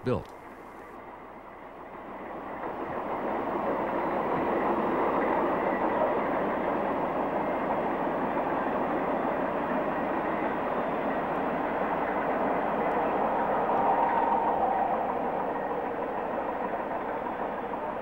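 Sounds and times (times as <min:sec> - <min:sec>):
train rumbling on track: 0:00.0 - 0:18.0.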